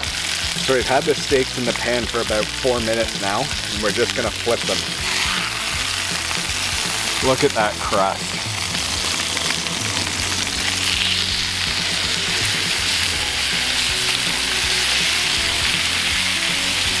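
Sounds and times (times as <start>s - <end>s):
steaks sizzling in a skillet: 0.0s - 17.0s
metal tongs turning steaks: 0.2s - 17.0s.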